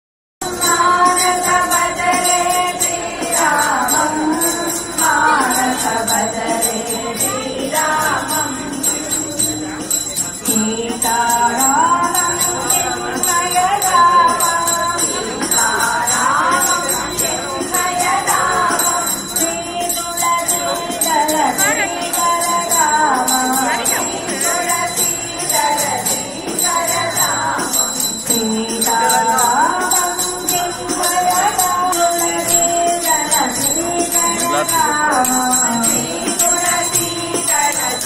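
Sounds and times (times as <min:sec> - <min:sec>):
bell ringing rapidly: 0:00.4 - 0:38.0
devotional singing: 0:00.4 - 0:38.0.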